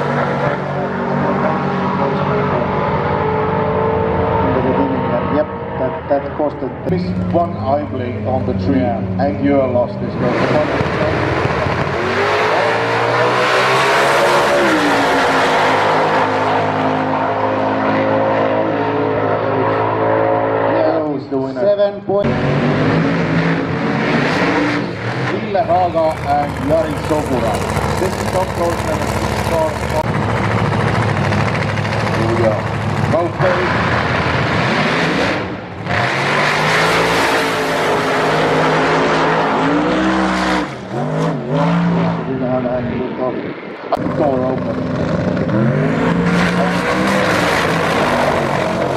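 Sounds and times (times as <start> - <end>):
drag racing cars accelerating: 0.0 - 48.9.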